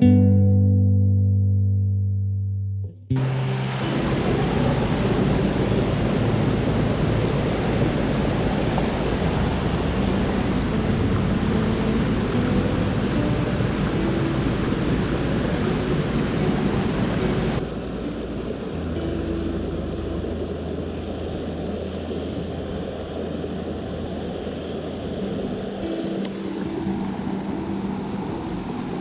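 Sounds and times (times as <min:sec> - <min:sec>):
fast-flowing river water roaring: 0:03.2 - 0:29.0.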